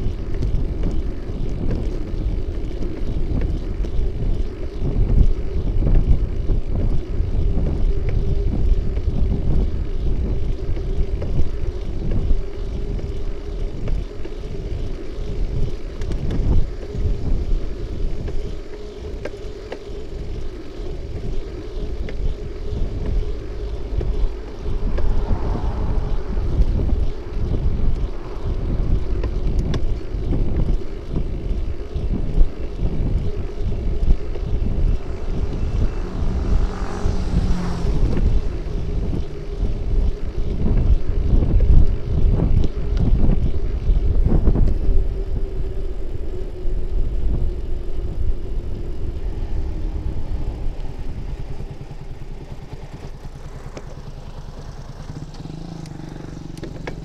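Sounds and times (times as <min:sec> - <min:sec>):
steady hum: 0:00.0 - 0:57.0
tyres rumbling on road: 0:00.0 - 0:57.0
wind buffeting microphone: 0:00.0 - 0:57.0.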